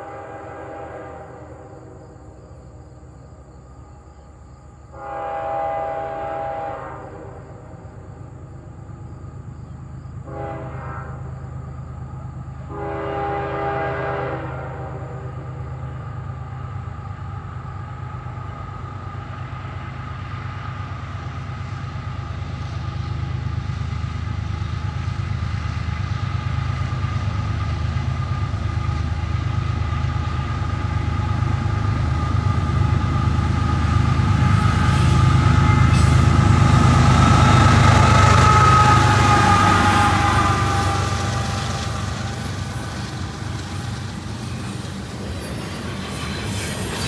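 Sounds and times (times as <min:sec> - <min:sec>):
diesel locomotive engine rumble: 0:00.0 - 0:47.0.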